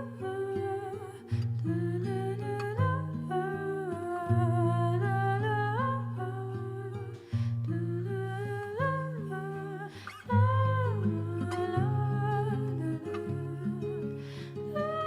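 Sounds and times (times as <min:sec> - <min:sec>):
hummed vocal melody: 0:00.0 - 0:15.0.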